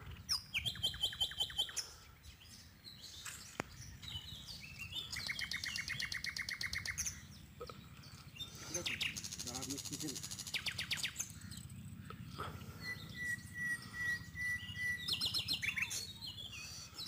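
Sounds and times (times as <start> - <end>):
birds singing repeated notes: 0.0 - 17.0.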